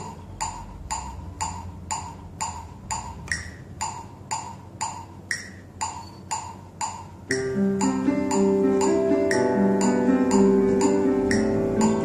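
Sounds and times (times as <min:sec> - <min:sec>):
higher-pitched metronome click: 0:00.0 - 0:12.0
metronome clicking: 0:00.0 - 0:12.0.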